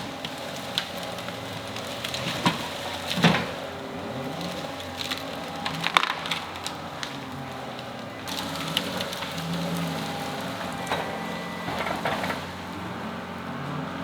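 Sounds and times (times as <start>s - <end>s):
branches cracking and snapping: 0.0s - 14.0s
diesel engine running: 0.0s - 14.0s.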